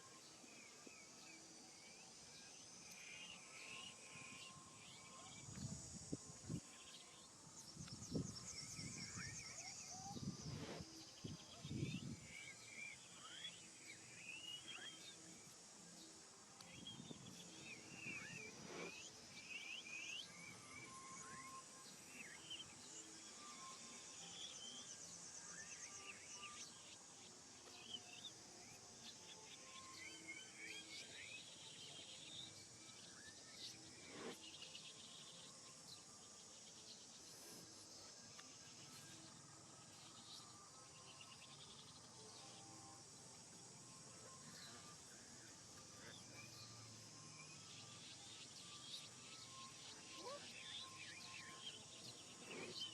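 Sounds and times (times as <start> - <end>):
high insect drone: 0.0 - 52.9.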